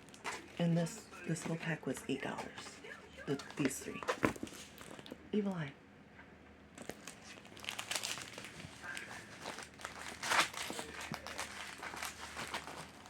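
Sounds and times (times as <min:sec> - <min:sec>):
packaging crinkling and rustling: 0:00.0 - 0:05.2, 0:06.8 - 0:13.0.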